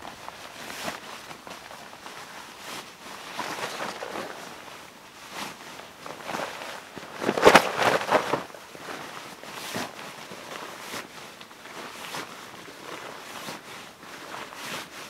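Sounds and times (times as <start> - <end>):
fabric rustling: 0.0 - 15.0.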